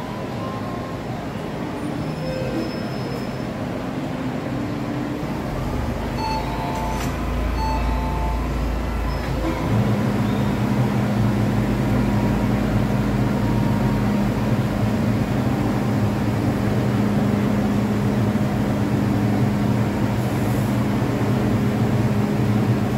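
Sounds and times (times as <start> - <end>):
train equipment humming: 3.4 - 22.9.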